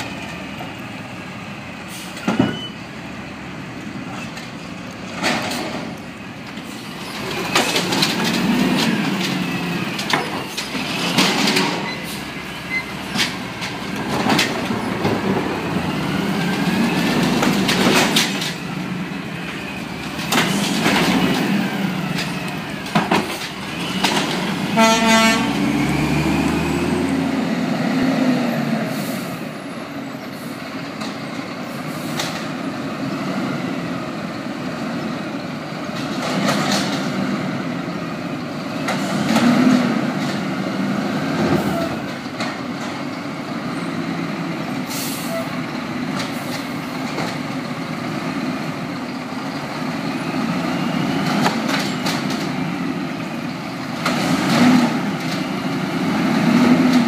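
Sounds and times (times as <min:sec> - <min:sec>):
garbage truck engine: 0:00.0 - 0:57.0.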